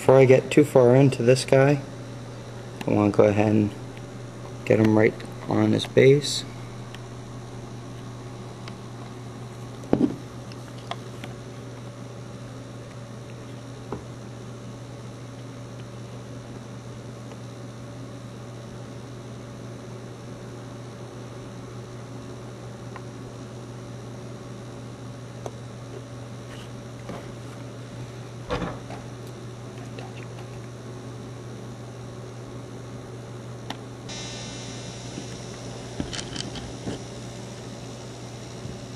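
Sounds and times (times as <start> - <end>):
low hum with hiss: 0.0 - 38.9.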